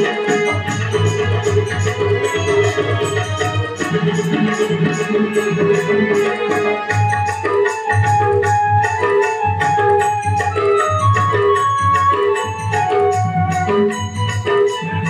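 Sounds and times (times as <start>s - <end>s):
hand drums beat: 0.0s - 15.0s
harmonium melody: 0.0s - 15.0s.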